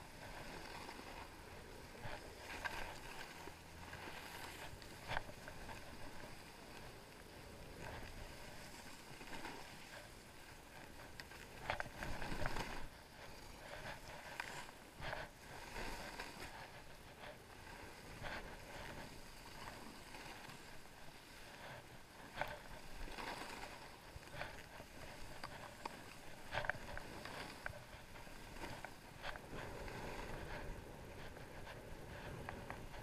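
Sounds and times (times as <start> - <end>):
skis sliding on snow: 0.0 - 33.0.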